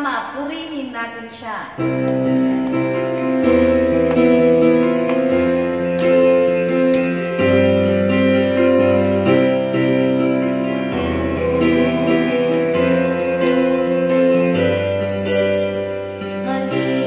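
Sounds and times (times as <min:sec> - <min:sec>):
electronic keyboard playing chords: 0:01.8 - 0:17.0.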